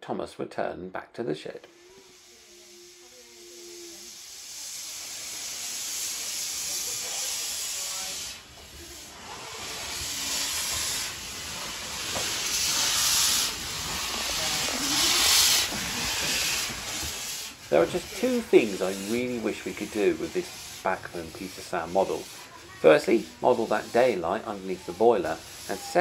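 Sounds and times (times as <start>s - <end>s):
steam hissing from locomotive: 1.6s - 26.0s.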